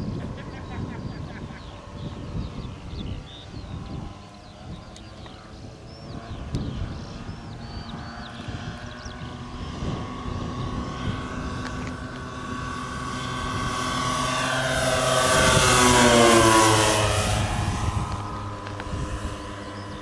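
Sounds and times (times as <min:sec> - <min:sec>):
model aircraft propellers droning: 0:00.0 - 0:20.0
wind rumbling on microphone: 0:00.0 - 0:20.0.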